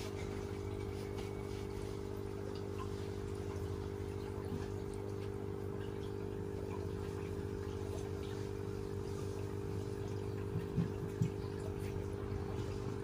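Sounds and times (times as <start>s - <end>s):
steady low hum: 0.0s - 13.0s
water trickling and dripping: 0.0s - 13.0s.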